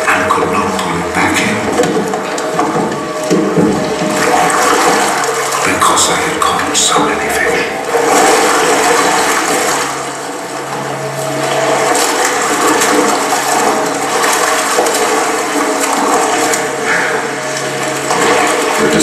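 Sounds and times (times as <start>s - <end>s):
film soundtrack over loudspeakers: 0.0s - 19.0s
low steady hum: 0.0s - 19.0s
water rushing and splashing: 0.0s - 19.0s.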